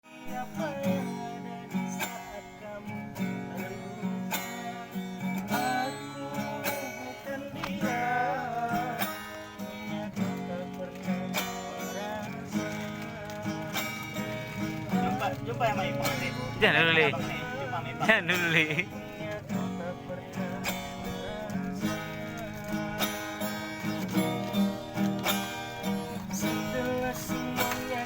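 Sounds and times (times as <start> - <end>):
plucked guitar: 0.0 - 28.0.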